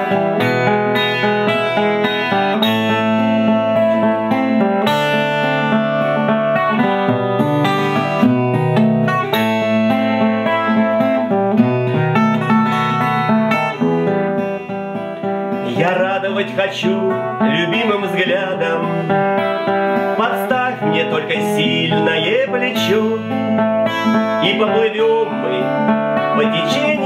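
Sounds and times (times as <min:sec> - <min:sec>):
plucked string melody over chords: 0:00.0 - 0:27.0.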